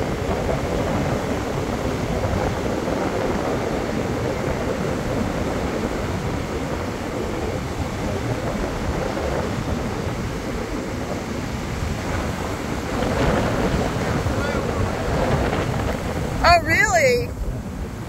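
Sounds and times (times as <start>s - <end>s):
surf washing over beach: 0.0s - 18.0s
wind on microphone: 0.0s - 18.0s.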